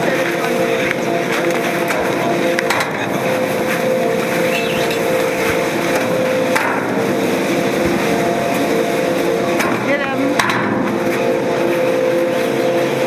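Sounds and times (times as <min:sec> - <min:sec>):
machine hums: 0:00.0 - 0:13.0
machinery drone: 0:00.0 - 0:13.0.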